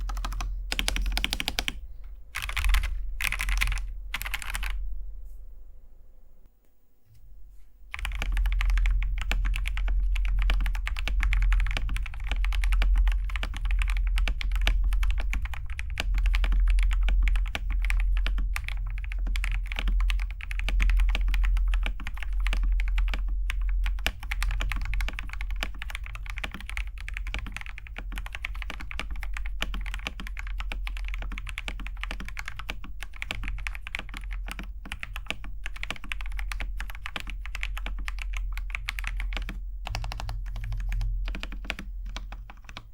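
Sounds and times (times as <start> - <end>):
fast mechanical keyboard typing: 0.0 - 4.8, 7.9 - 42.9.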